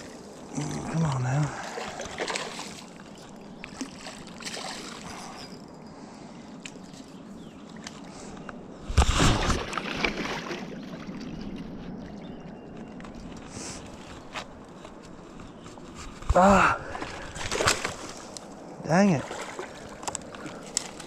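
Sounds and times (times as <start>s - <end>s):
river water lapping: 0.0s - 21.0s.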